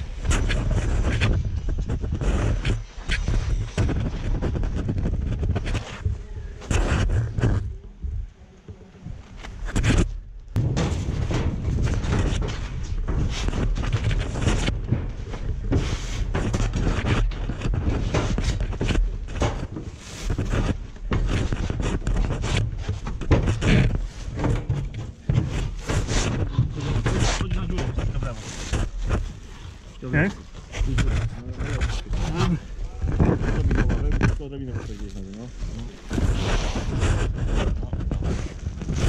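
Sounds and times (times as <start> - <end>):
mesh veil rustling against camera: 0.0 - 39.0
wind rumble on microphone: 0.0 - 39.0.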